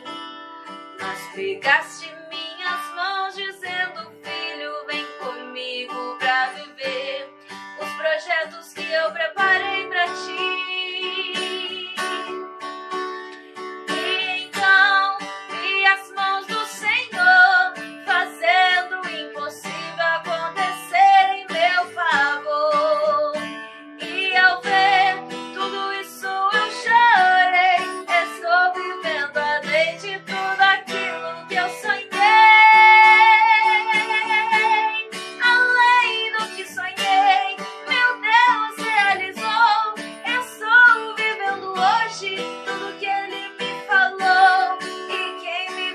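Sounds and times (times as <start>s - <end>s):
acoustic guitar: 0.0s - 45.9s
person singing: 1.0s - 12.4s, 13.9s - 45.9s.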